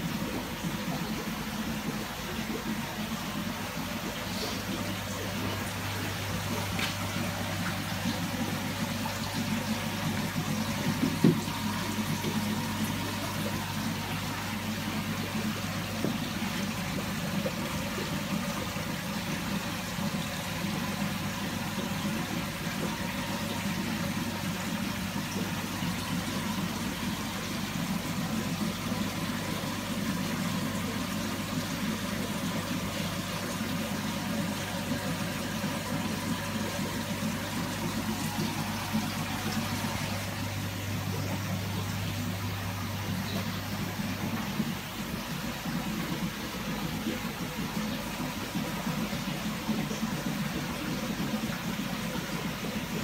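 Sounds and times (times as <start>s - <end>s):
constant low hum: 0.0s - 53.0s
running water: 0.0s - 53.0s.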